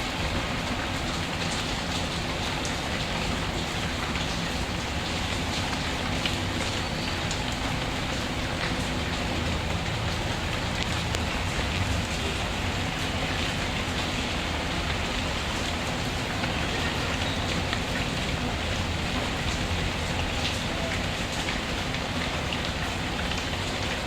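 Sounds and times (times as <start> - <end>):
steady rain pattering: 0.0 - 24.0.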